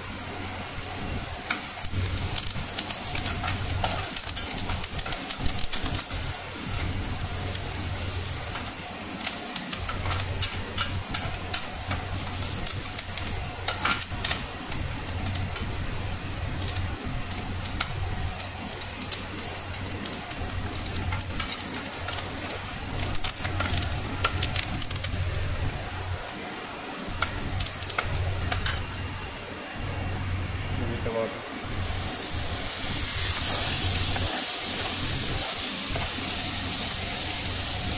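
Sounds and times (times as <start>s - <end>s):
onions sizzling in oil: 0.0s - 30.8s, 31.5s - 37.9s.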